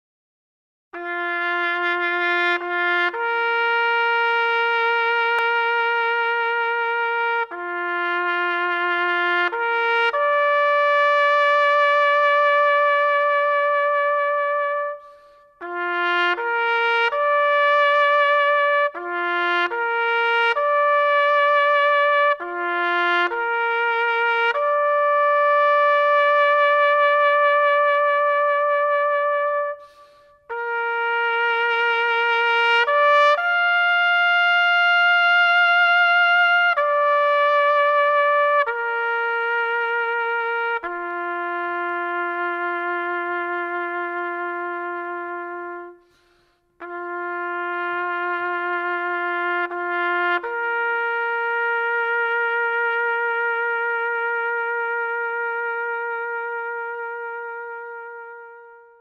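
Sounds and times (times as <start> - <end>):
slow brass melody: 1.0 - 59.0.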